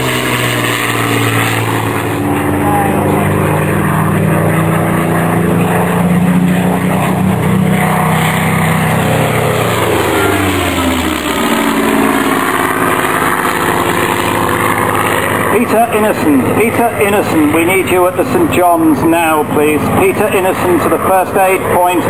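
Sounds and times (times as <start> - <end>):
propeller aircraft flying past: 0.0 - 22.0.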